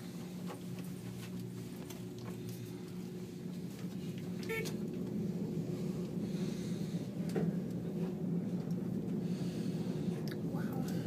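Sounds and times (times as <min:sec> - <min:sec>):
elevator low hum: 0:00.0 - 0:11.0.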